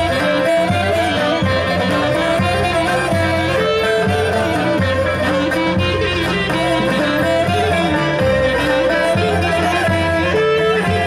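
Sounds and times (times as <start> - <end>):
plucked strings: 0.0 - 11.0
violin melody: 0.0 - 11.0.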